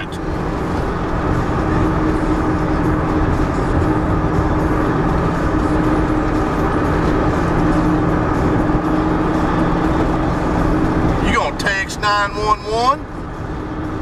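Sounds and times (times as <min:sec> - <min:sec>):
car interior engine and road noise: 0:00.0 - 0:14.0.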